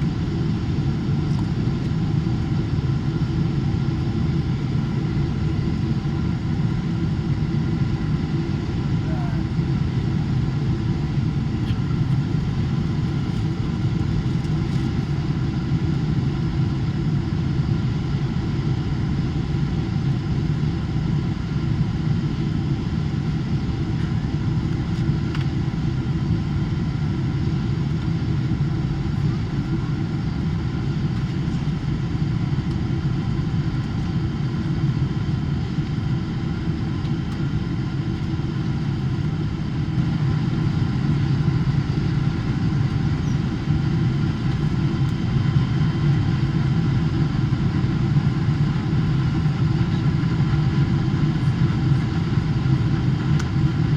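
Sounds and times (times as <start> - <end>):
jet engine rumble: 0.0 - 53.9.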